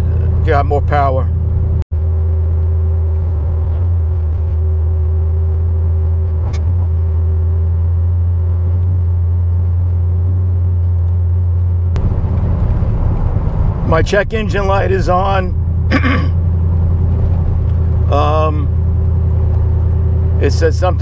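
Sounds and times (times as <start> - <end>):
engine low drone: 0.0 - 21.0.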